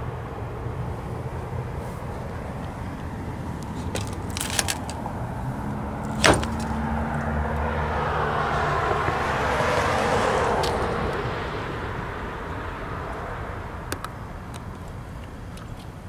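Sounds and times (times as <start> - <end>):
vehicle passing: 0.0 - 15.2.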